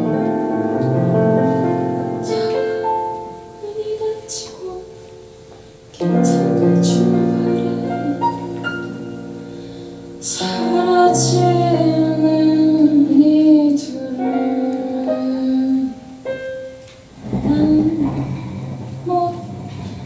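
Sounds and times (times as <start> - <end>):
keyboard piano chords: 0.0 - 20.0
woman singing: 1.6 - 5.3, 6.0 - 9.3, 10.2 - 20.0.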